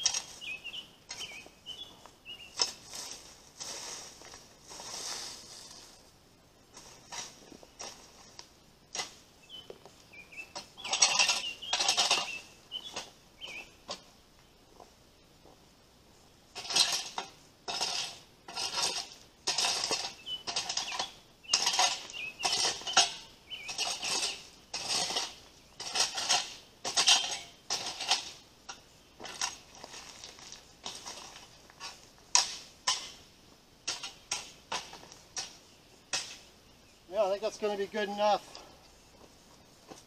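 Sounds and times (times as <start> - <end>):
rake scraping leaves over gravel: 0.0 - 6.1, 6.7 - 14.1, 16.5 - 40.0.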